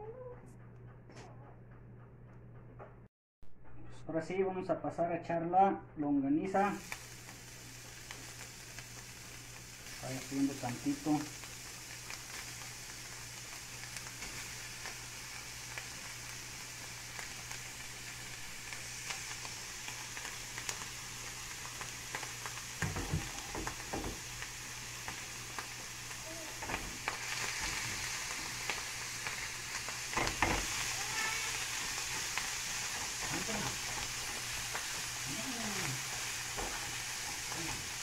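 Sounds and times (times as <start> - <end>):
sausage sizzling in a frying pan: 6.2 - 38.0.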